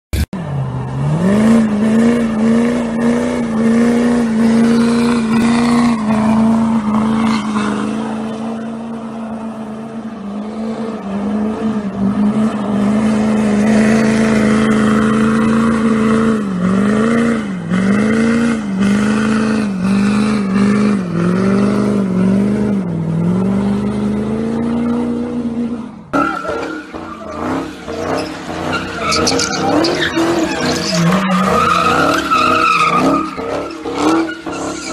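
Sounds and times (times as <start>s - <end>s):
truck engine at high revs: 0.1s - 34.9s
car engine revving: 0.2s - 34.9s
tyres skidding: 0.2s - 34.9s.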